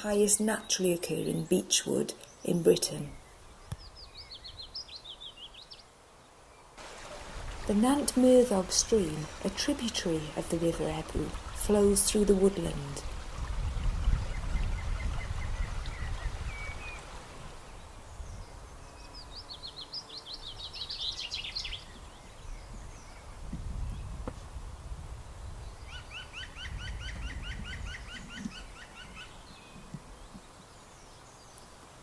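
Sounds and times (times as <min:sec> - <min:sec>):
songbirds singing: 0:00.0 - 0:24.4, 0:25.4 - 0:32.0.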